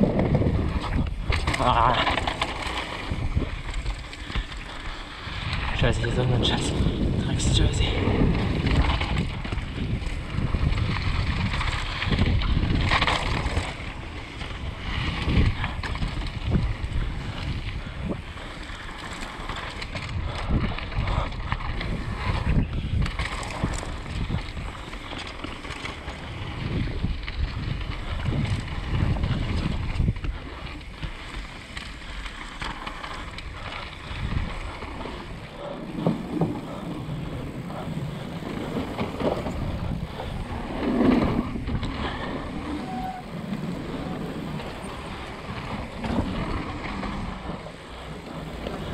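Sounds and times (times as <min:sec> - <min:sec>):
wind rushing over microphone: 0:00.0 - 0:25.2, 0:25.9 - 0:32.2, 0:33.1 - 0:48.9
bike rattling and knocking: 0:00.0 - 0:48.9
bike tyres rumbling on gravel: 0:00.0 - 0:48.9.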